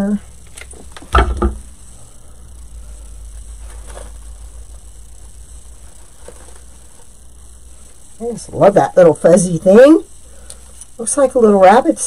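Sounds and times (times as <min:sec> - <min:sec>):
artificial greenery rustling: 0:00.0 - 0:11.8
low steady hum: 0:00.0 - 0:12.0.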